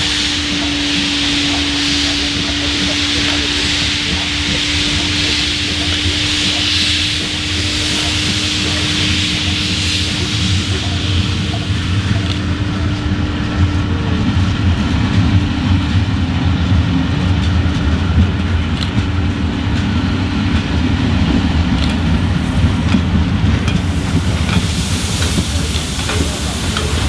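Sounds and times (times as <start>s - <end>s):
hiss: 0.0s - 27.0s
train rumbling on rails: 0.0s - 27.0s.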